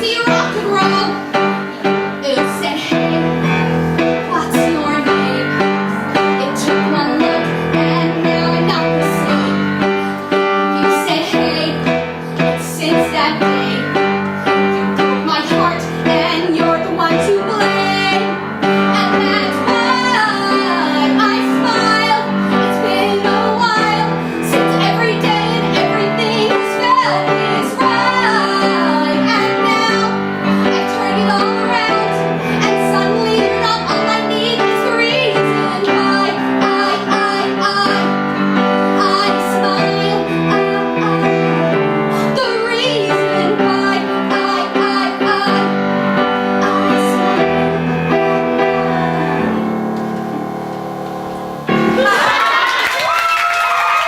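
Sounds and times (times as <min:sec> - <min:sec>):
woman singing: 0:00.0 - 0:01.2, 0:02.2 - 0:03.5, 0:04.3 - 0:09.9, 0:10.6 - 0:14.0, 0:15.0 - 0:48.2
piano accompaniment: 0:00.0 - 0:54.0.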